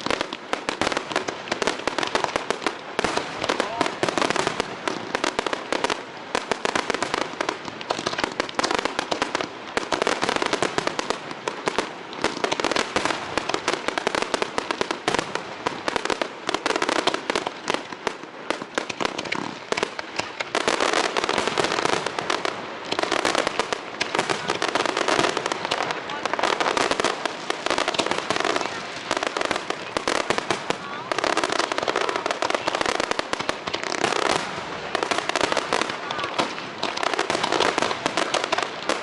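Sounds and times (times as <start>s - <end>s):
fireworks bangs and pops: 0.0s - 39.0s.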